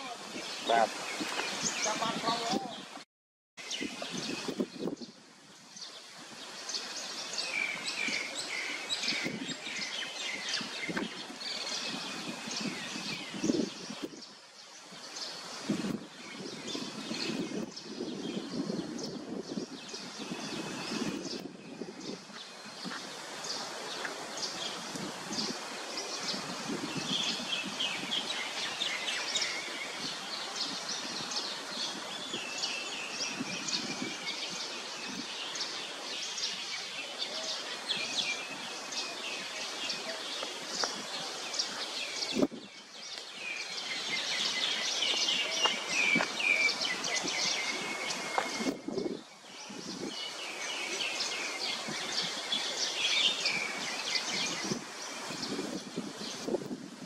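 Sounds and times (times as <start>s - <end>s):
leaves and branches rustling: 0.0s - 3.0s, 3.6s - 57.0s
background hiss: 3.6s - 57.0s.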